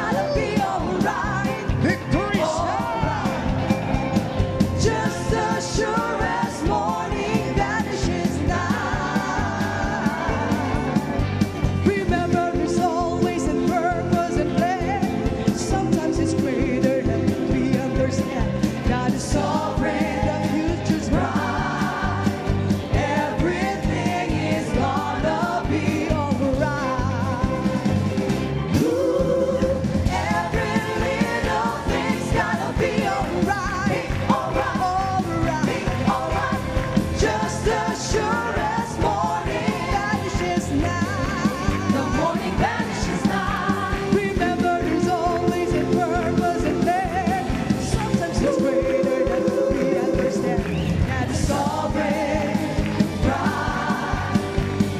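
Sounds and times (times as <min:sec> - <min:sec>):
worship song with band: 0:00.0 - 0:54.9.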